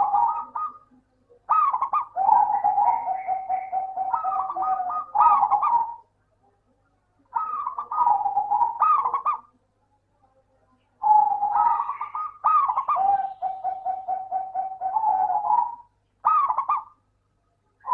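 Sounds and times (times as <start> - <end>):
dove cooing: 0.0 - 6.1, 7.3 - 9.6, 11.0 - 17.0.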